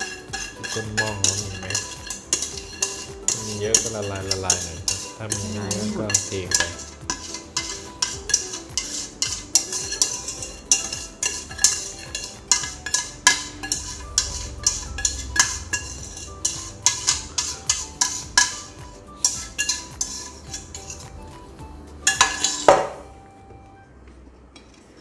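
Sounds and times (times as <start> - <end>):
metal utensil stirring in a pot: 0.0 - 21.4, 22.0 - 23.0.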